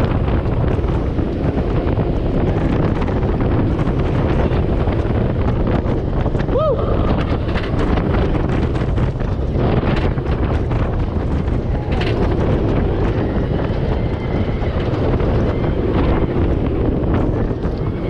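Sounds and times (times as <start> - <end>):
roller coaster rumbling on track: 0.0 - 18.0
wind buffeting microphone: 0.0 - 18.0.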